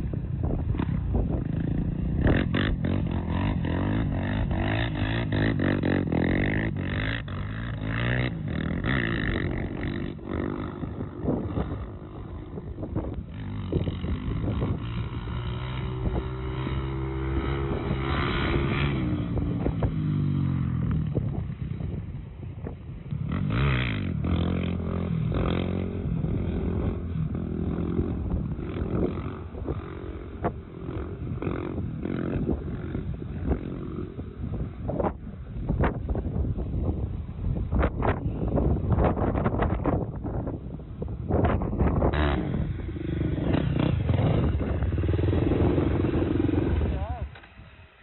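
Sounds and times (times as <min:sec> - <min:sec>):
quad bike engine revving: 0:00.0 - 0:22.1, 0:23.1 - 0:35.2, 0:37.8 - 0:47.6.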